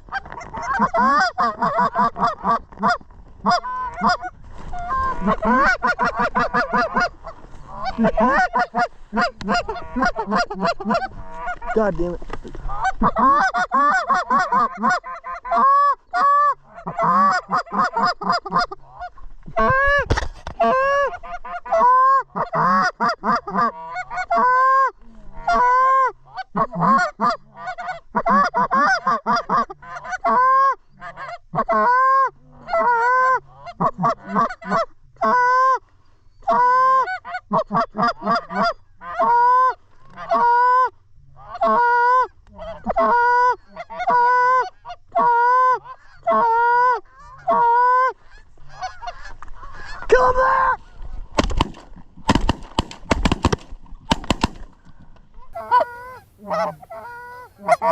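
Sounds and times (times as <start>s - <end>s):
goose honking: 0.0s - 20.0s, 20.6s - 35.8s, 36.4s - 51.0s, 55.4s - 57.9s.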